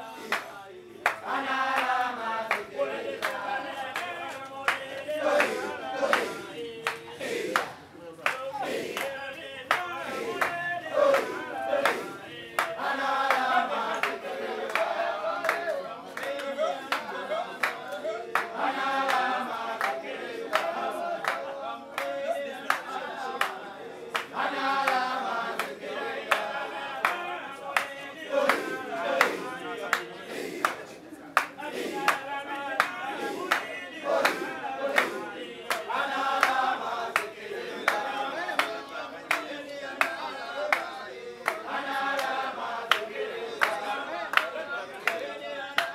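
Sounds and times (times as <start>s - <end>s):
group of voices chanting: 0.0s - 45.9s
hand claps: 0.0s - 45.9s.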